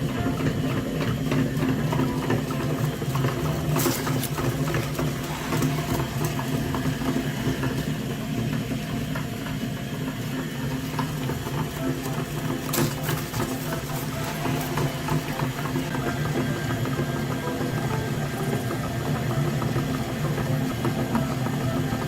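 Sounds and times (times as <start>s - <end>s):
gear rattle: 0.0s - 8.7s, 10.7s - 22.0s.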